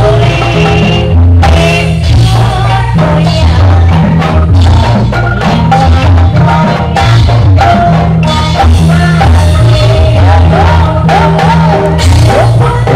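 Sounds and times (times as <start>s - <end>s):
heavy driving drum strokes: 0.0s - 12.9s.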